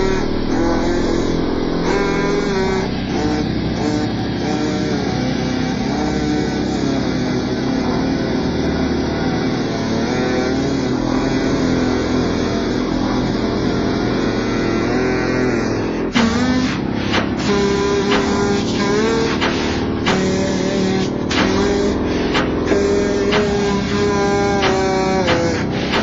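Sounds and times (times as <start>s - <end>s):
slowed bass-boosted phonk music: 0.0s - 26.0s.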